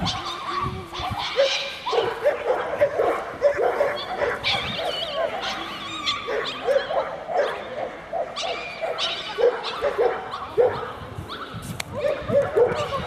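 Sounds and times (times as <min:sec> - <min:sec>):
dog barking and yipping: 0:00.0 - 0:13.0.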